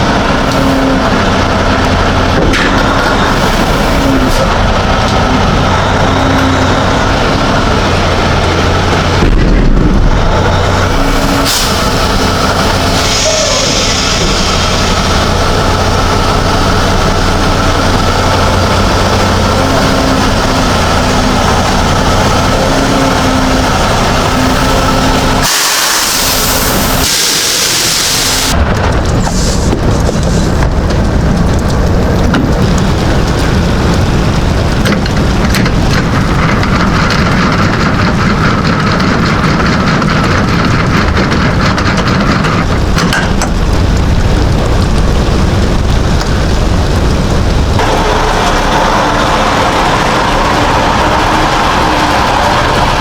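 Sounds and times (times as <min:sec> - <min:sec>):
rain and road noise: 0:00.0 - 0:53.0
truck engine drone: 0:00.0 - 0:53.0.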